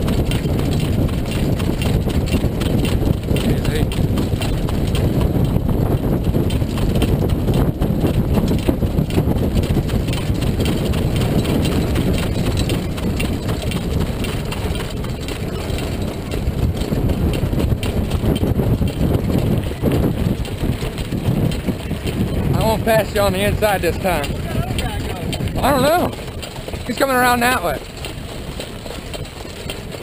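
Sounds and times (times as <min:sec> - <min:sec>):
cart wheels rolling on dirt: 0:00.0 - 0:30.0
horse hoofbeats on dirt: 0:00.0 - 0:30.0
wind rumble: 0:00.0 - 0:30.0.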